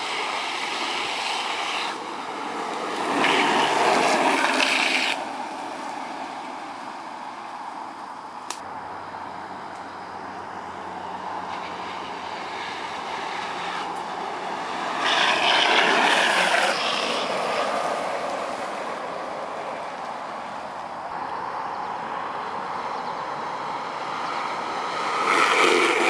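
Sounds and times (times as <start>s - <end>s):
outdoor background noise: 0.0s - 26.0s
wheels rolling on road: 0.0s - 26.0s.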